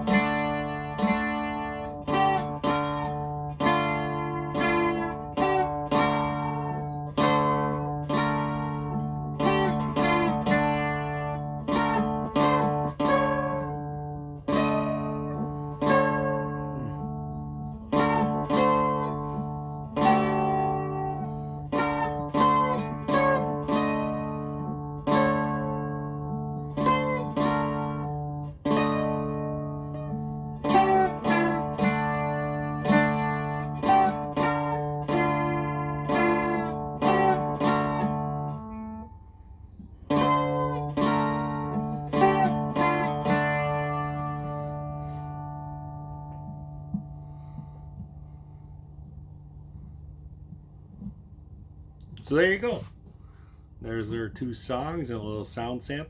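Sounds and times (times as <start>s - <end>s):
amplified dulcimer strums: 0.0s - 50.6s.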